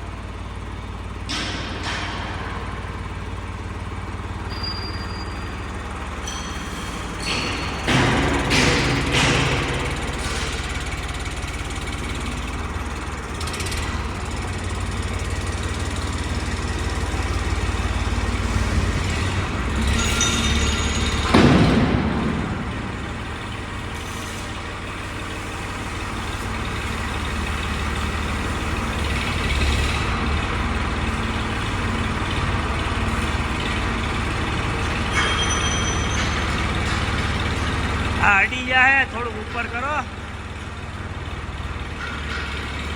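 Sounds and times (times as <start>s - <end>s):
engine low rumble: 0.0s - 42.9s.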